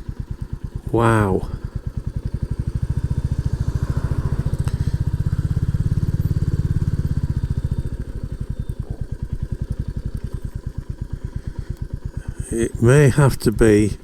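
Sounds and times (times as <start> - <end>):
motorcycle engine pulsing: 0.0 - 14.0.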